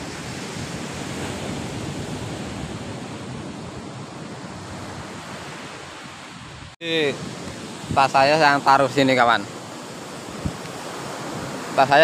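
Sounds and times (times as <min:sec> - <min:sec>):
wind buffeting microphone: 0:00.0 - 0:09.0, 0:09.6 - 0:11.8
surf washing onto beach: 0:00.0 - 0:12.0.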